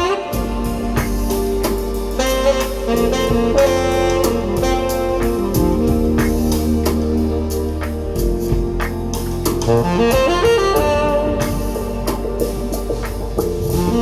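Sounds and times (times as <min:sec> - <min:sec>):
bass: 0:00.0 - 0:14.0
saxophone lead: 0:00.0 - 0:14.0
drum beat: 0:00.3 - 0:14.0.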